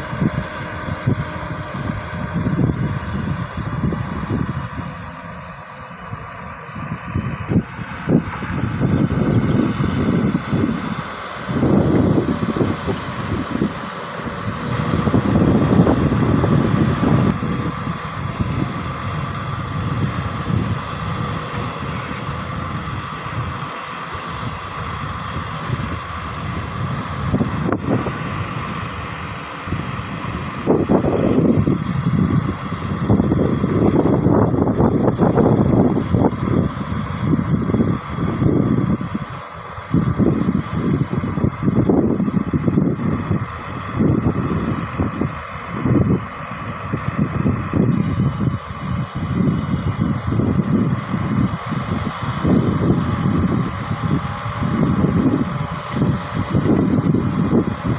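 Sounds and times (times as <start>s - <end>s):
excavator diesel engines running: 0.0s - 57.9s
steady high whine: 0.0s - 57.9s
wind noise on microphone: 0.0s - 57.9s.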